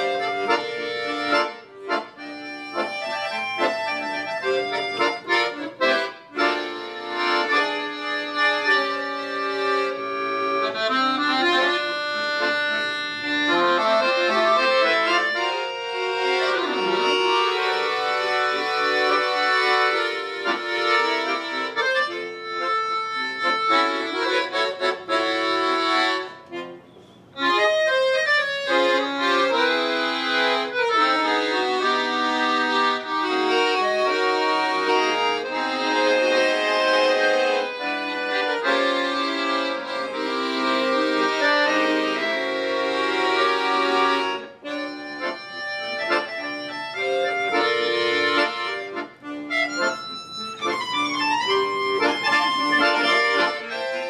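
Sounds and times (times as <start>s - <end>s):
piano accordions playing a duet: 0.0s - 54.0s.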